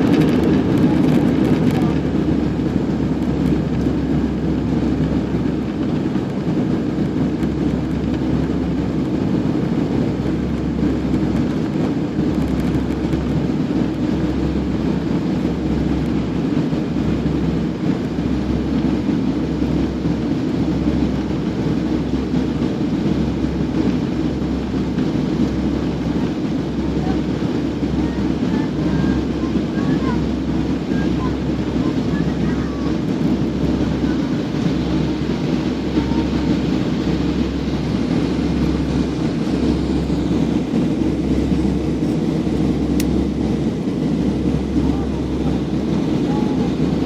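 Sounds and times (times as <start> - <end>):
jet airliner engines roaring: 0.0 - 47.0.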